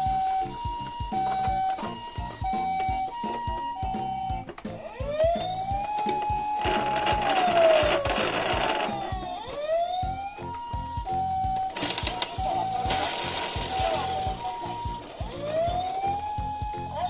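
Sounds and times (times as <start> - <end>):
low thumps: 0.0 - 17.0
two-tone ambulance siren: 0.0 - 17.0
wailing siren: 0.0 - 17.0.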